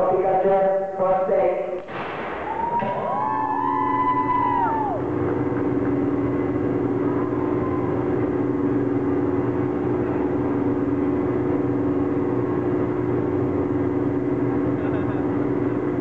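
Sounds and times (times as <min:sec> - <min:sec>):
low droning tones: 0:00.0 - 0:16.0
dense rumble: 0:01.8 - 0:16.0.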